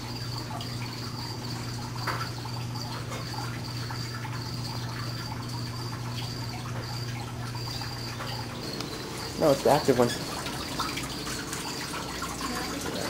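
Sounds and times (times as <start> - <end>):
cricket chirping: 0.0 - 13.0
steady low hum: 0.0 - 13.0.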